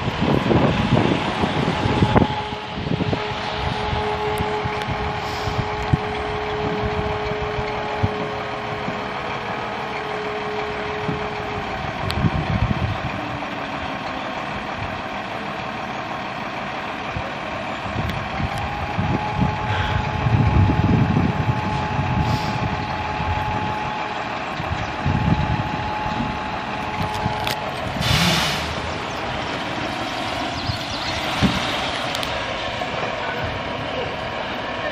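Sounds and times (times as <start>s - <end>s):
fire engines revving: 0.0s - 34.9s.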